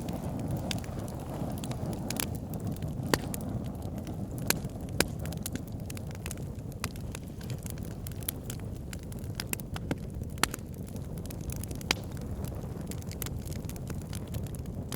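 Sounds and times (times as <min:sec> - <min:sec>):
fire crackling with sharp pops: 0:00.0 - 0:14.9
low rumble of flames: 0:00.0 - 0:14.9.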